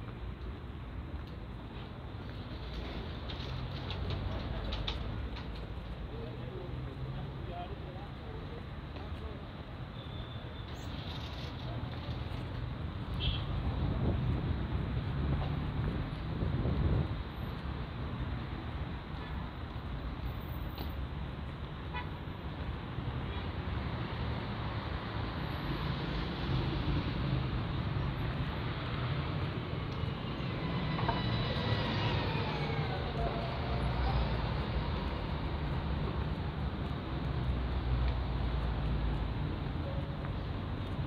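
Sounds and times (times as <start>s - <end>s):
rumble of passing cars: 0.0s - 41.0s.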